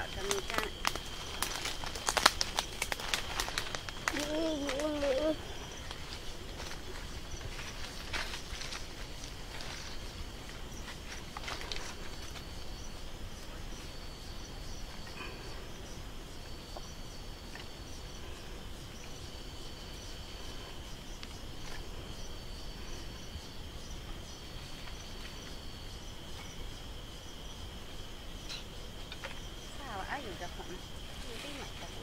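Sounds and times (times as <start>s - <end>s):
insect high trill: 0.0s - 32.0s.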